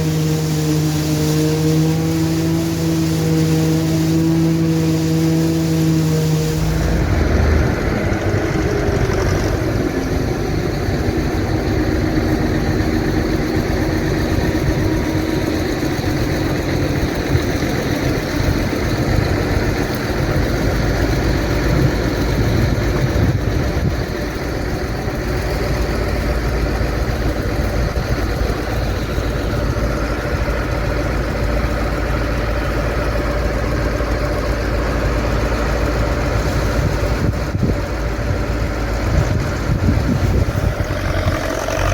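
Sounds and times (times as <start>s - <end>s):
forage harvester chopping corn: 0.0s - 33.0s, 34.0s - 41.9s
tractor diesel engine running: 0.0s - 41.9s.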